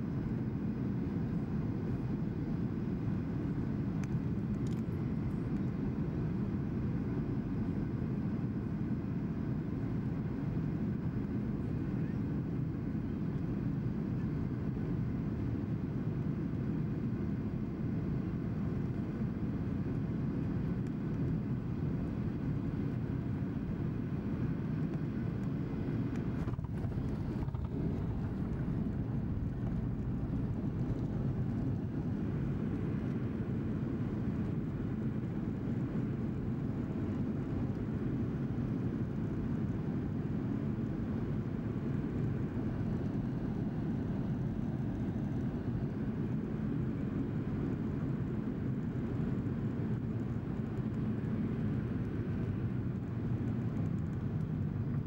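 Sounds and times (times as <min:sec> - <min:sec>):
airplane engine and airflow rumble: 0:00.0 - 0:55.0.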